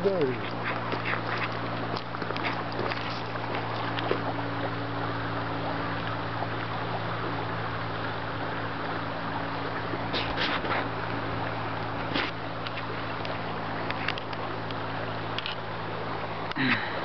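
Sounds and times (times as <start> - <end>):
low mechanical hum: 0.0 - 17.0
river water rippling over stones: 0.0 - 17.0.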